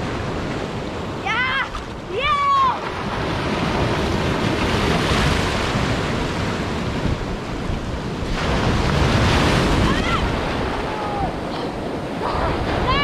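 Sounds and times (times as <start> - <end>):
sea surf breaking: 0.0 - 13.0
wind rumble on microphone: 0.0 - 13.0.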